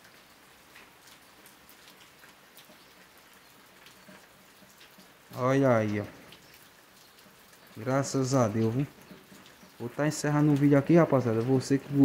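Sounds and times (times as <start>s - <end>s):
faint steady rain: 0.0s - 12.0s
raindrops ticking: 0.0s - 12.0s.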